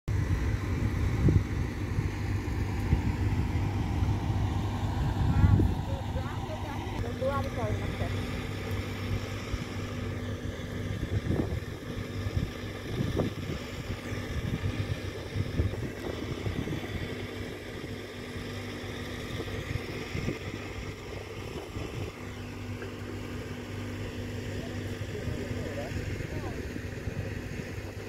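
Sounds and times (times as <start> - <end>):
distant boat engine drone: 0.1 - 28.0
water noise: 0.1 - 28.0
wind: 0.1 - 28.0.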